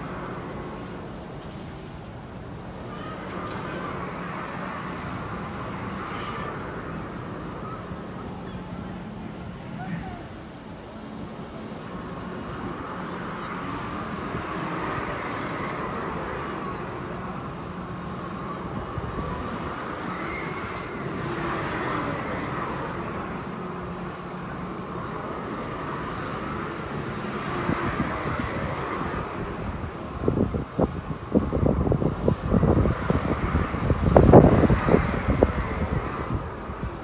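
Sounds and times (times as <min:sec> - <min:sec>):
traffic noise: 0:00.0 - 0:37.0
distant voices: 0:00.2 - 0:30.2.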